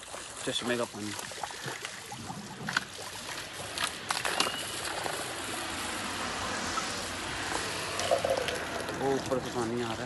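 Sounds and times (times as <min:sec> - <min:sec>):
spring water running and splashing: 0:00.0 - 0:10.0.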